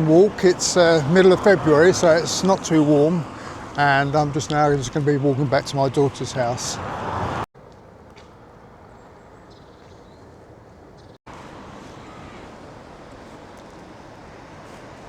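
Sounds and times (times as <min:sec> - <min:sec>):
distant traffic: 0:00.0 - 0:15.0.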